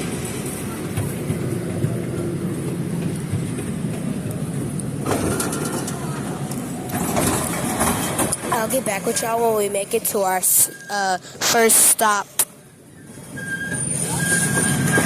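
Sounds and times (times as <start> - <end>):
train low rumble: 0.0 - 15.0
train rattling and clicking: 0.0 - 15.0.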